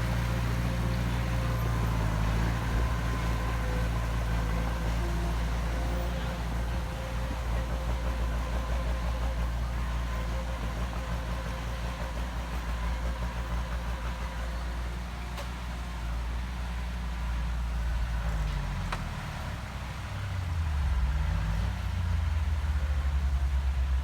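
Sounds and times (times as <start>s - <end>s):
heavy machinery diesel engine: 0.0s - 24.0s.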